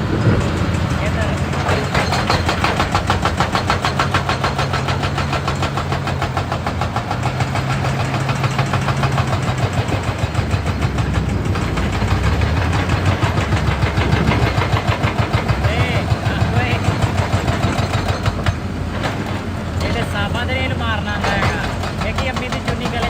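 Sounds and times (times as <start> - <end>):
diesel engine running: 0.0 - 23.0
hydraulic breaker hammering rock: 0.0 - 23.0.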